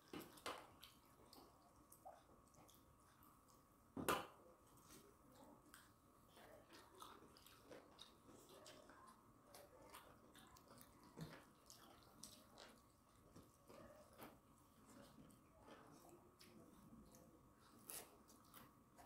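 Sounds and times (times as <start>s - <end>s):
chewing and wet mouth sounds: 0.0s - 3.9s, 4.7s - 19.0s.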